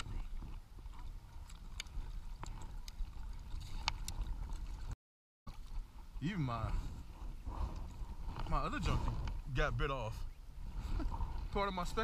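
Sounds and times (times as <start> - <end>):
water rumble: 0.0 - 12.0
wind: 0.0 - 12.0.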